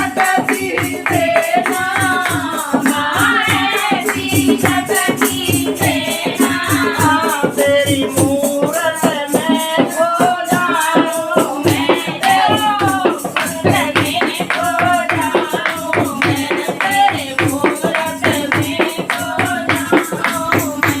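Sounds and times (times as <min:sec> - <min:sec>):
rattle percussion beat: 0:00.0 - 0:21.0
woman singing devotional song: 0:00.0 - 0:21.0.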